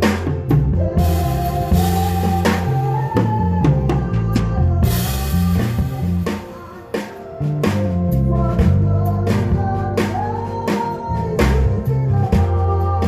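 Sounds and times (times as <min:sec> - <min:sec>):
drum kit hits: 0:00.0 - 0:12.6
bass line: 0:00.0 - 0:13.0
live band playing: 0:00.0 - 0:13.0.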